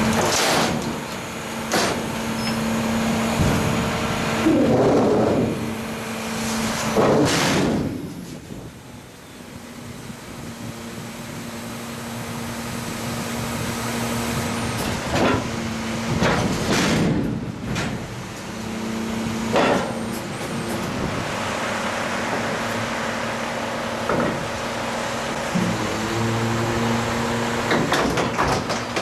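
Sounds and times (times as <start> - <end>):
truck engine humming: 0.0 - 29.0.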